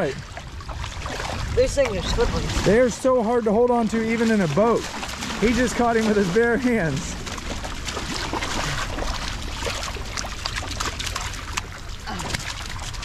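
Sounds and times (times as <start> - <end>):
creek water splashing and trickling: 0.0 - 13.0.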